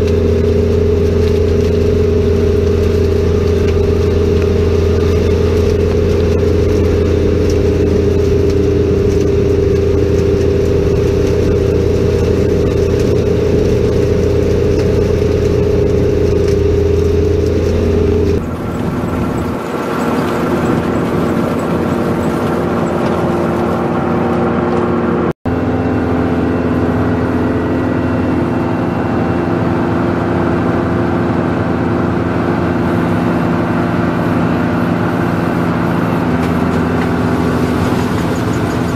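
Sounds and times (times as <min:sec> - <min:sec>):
grape harvester machinery humming: 0:00.0 - 0:38.9.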